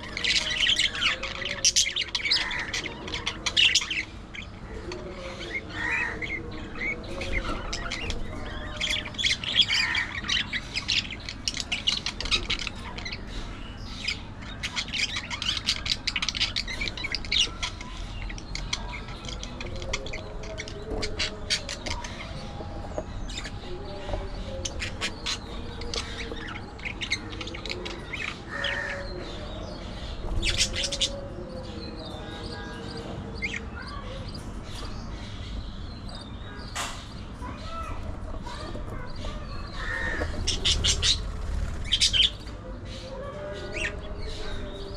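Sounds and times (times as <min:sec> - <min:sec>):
budgerigars chirping and squawking: 0:00.0 - 0:44.9.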